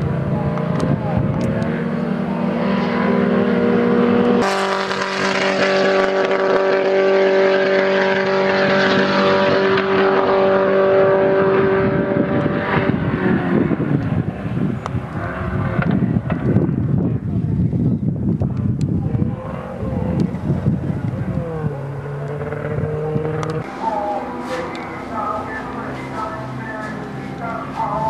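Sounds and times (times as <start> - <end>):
wind on microphone: 0.0 - 1.9, 3.3 - 24.1
race car engines at high revs: 0.0 - 28.0.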